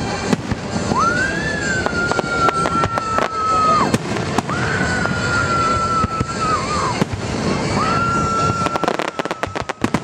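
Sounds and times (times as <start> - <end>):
fireworks bangs and crackle: 0.0 - 10.0
high fireworks whistles: 0.0 - 10.0
sharp fireworks reports: 0.0 - 10.0.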